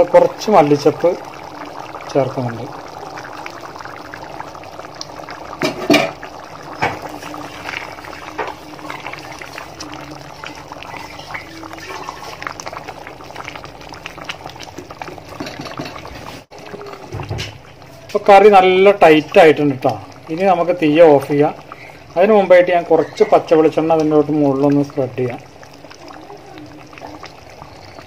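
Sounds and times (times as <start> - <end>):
curry bubbling in a pot: 0.0 - 28.0.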